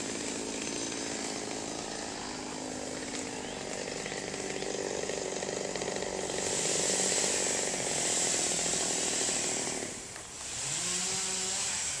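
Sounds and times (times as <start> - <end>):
small gasoline engine running hard: 0.0 - 12.0.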